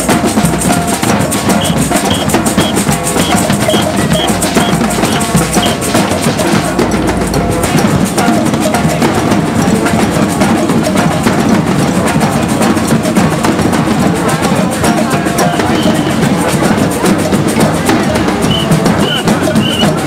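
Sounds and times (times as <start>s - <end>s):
drum corps playing fast rhythm: 0.0s - 20.0s.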